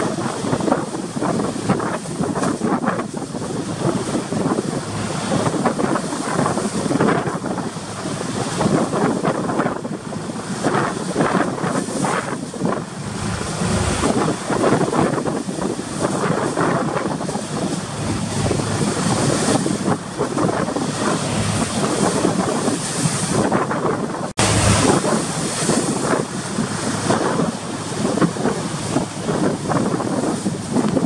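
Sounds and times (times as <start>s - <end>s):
rough sea waves rushing: 0.0s - 31.0s
wind buffeting microphone: 0.0s - 31.0s.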